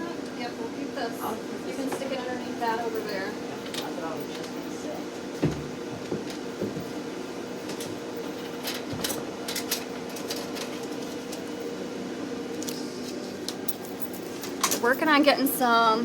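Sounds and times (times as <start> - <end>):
laser cutter machine hum: 0.0 - 13.8.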